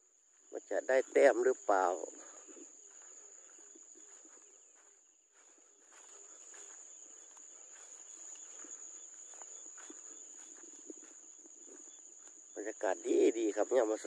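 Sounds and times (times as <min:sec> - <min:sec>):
crickets and insects chirping: 0:00.0 - 0:14.0
footsteps on dirt path: 0:00.0 - 0:14.0.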